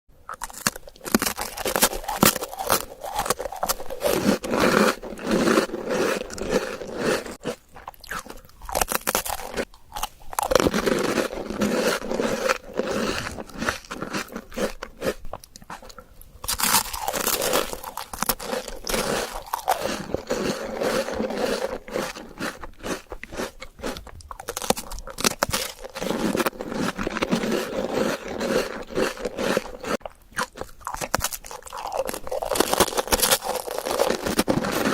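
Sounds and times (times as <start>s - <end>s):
crunching and chewing dessert: 0.2s - 34.9s.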